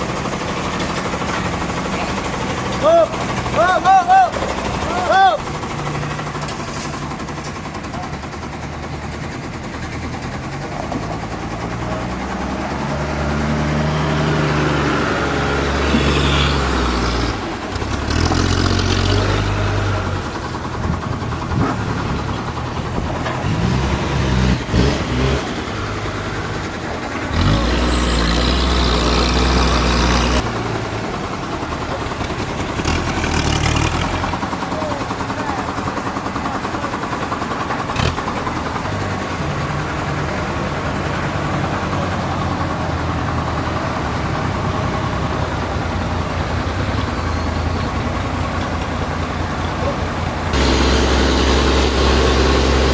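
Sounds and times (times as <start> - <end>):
heavy machinery engines revving: 0.0 - 52.9.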